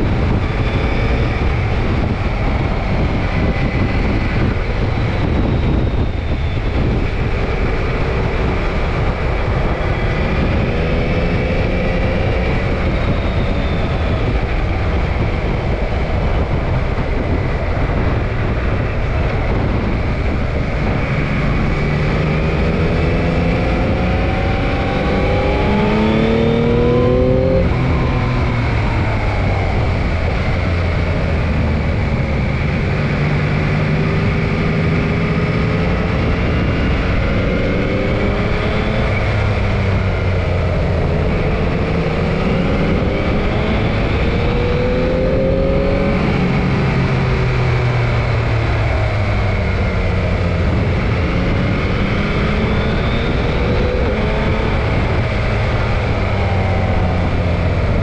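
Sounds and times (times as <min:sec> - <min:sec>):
motorcycle engine accelerating: 0:00.0 - 0:58.0
wind rush over camera: 0:00.0 - 0:58.0.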